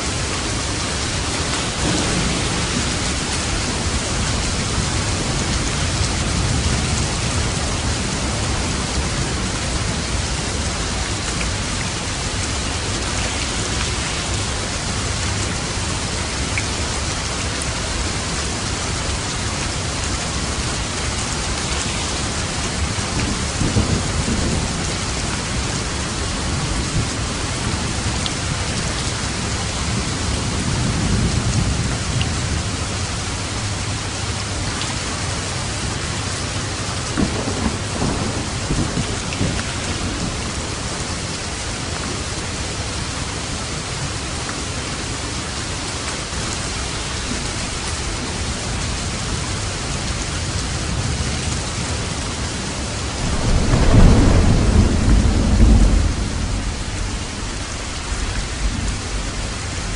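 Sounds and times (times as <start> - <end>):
heavy rain falling: 0.0 - 59.9
low thunder rumbling: 0.1 - 34.4, 35.3 - 44.2, 47.0 - 59.9.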